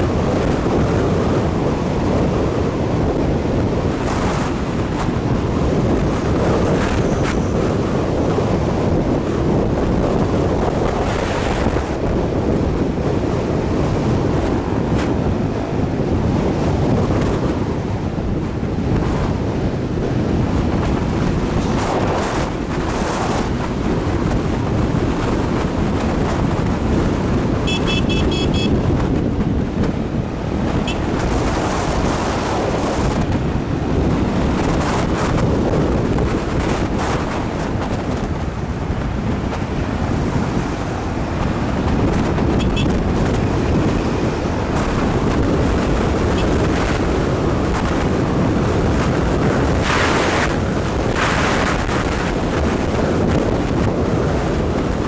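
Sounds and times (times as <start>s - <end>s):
road and traffic noise: 0.0s - 55.0s
wind buffeting microphone: 0.0s - 55.0s.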